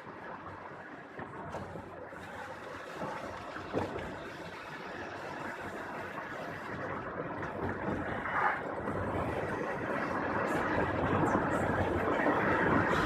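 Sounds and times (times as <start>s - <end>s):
vehicle rushing on road: 0.0s - 13.0s.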